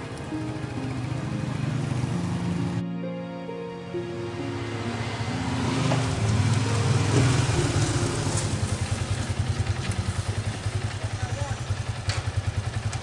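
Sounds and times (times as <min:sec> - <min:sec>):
motorcycle engine idling: 0:00.0 - 0:02.8, 0:05.0 - 0:13.0.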